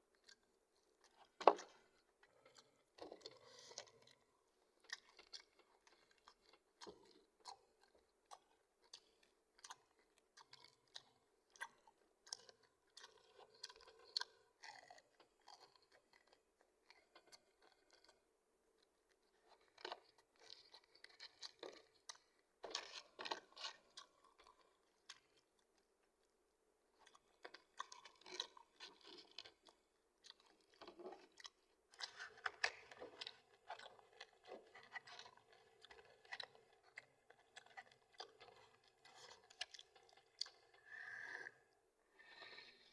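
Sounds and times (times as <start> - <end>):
close chewing and crunching: 0.0 - 42.9.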